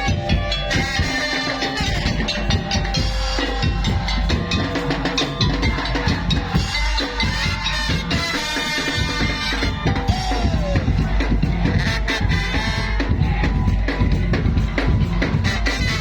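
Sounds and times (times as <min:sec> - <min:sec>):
fast dense drumming: 0:00.0 - 0:16.0.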